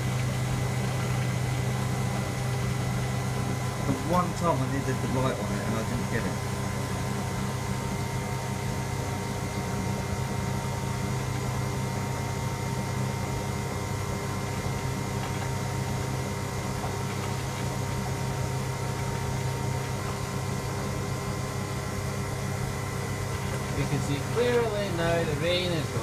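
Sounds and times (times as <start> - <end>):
washing machine spinning: 0.0 - 26.0.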